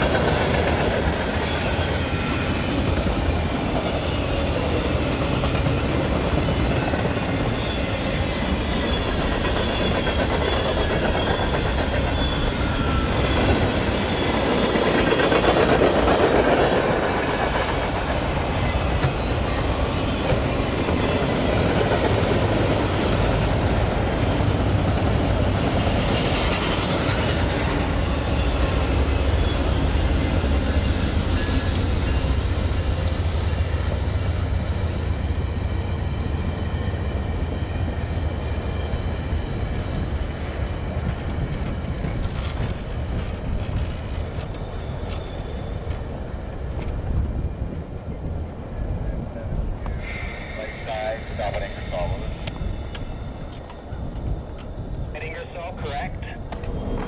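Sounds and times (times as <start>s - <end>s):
train wheels clicking over rail joints: 0.0s - 34.6s, 39.4s - 48.0s, 52.2s - 55.1s
freight train rumble: 0.0s - 57.0s.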